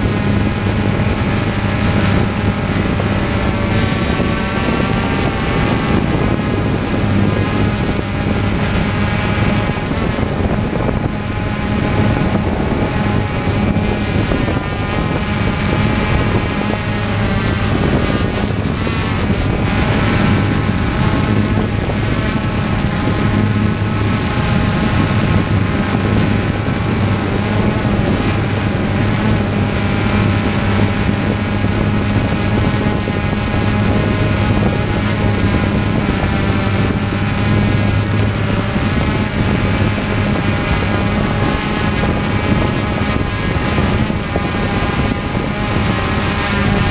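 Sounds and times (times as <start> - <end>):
propeller aircraft hum: 0.0 - 46.9
rushing noise: 0.0 - 46.9.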